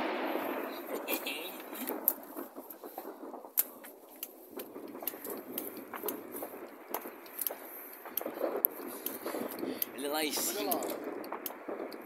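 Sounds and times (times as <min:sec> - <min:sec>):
distant fireworks cracking: 0:00.0 - 0:12.0
steady rushing noise: 0:00.0 - 0:12.0.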